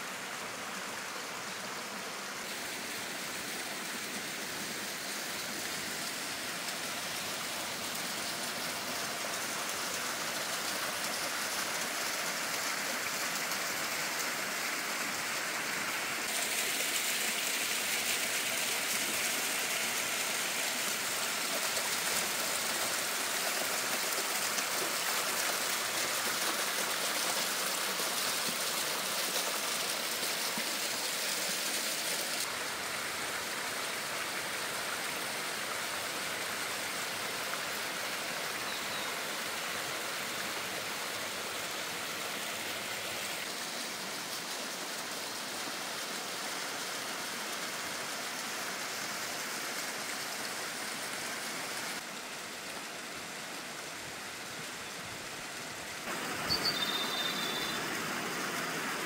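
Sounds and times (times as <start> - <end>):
small waterfall splashing onto stones: 1.4 - 59.0.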